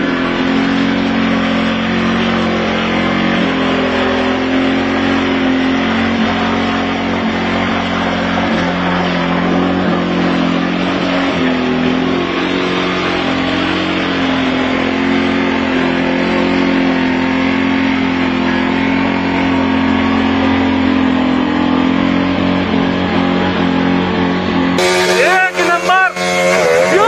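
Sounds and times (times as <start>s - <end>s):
motorcycle engine revving high: 0.0s - 27.0s.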